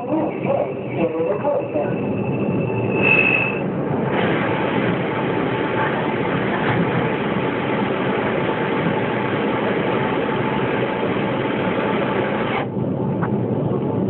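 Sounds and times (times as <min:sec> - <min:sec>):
metro train running noise: 0:00.0 - 0:14.0.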